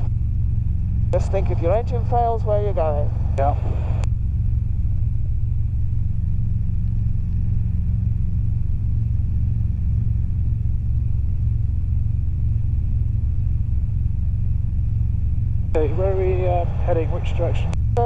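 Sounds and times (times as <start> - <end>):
helicopter engine and rotor rumble: 0.0 - 18.0.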